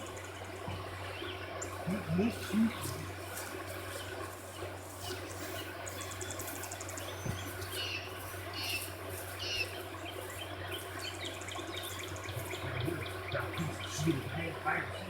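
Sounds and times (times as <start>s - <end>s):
low steady hum: 0.0s - 15.0s
small birds chirping: 0.0s - 15.0s.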